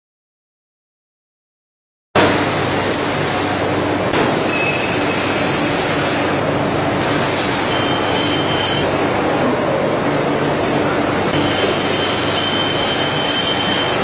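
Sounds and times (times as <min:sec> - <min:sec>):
machine running loudly: 0:02.2 - 0:14.0.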